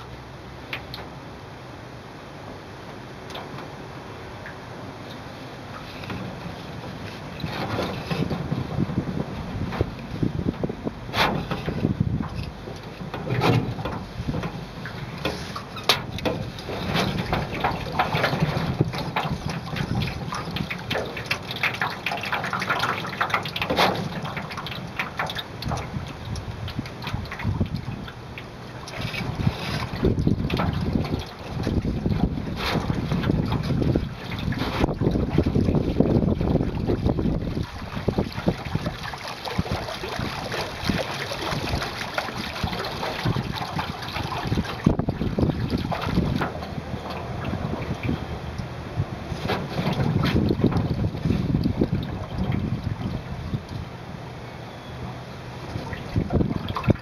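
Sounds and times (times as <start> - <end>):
water lapping against metal hull: 0.0 - 57.0
wind rumble on microphone: 5.6 - 54.2, 55.6 - 57.0.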